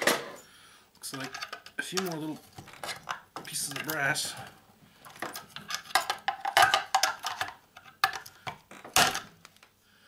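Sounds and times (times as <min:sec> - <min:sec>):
metal tools clicking and scraping: 0:01.0 - 0:09.2.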